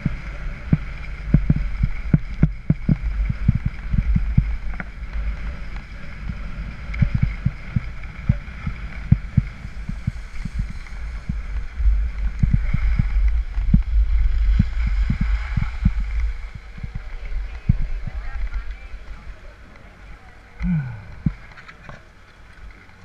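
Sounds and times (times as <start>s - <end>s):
wind on microphone: 0.0s - 19.8s
skis scraping over snow: 0.0s - 20.5s.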